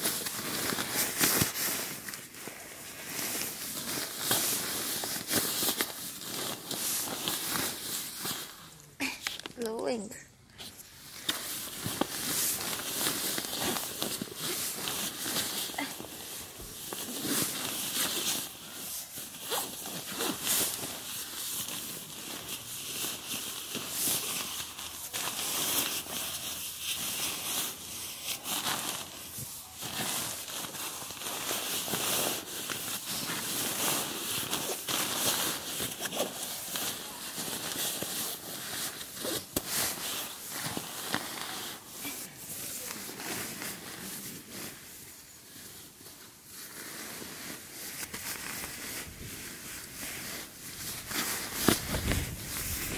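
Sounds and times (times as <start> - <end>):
sleeping bag fabric rustling: 0.0 - 8.8, 11.1 - 52.9.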